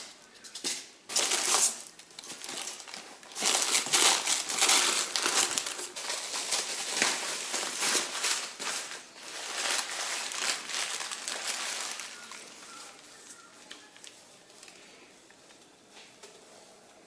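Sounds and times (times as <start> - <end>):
packaging crinkling and rustling: 0.0 - 16.5.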